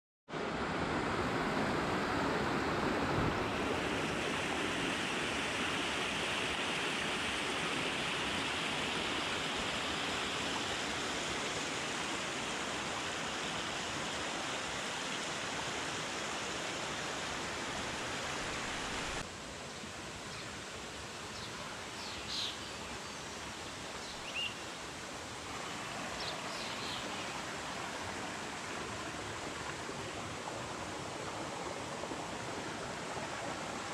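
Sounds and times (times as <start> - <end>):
stream rushing over stones: 0.4 - 33.9.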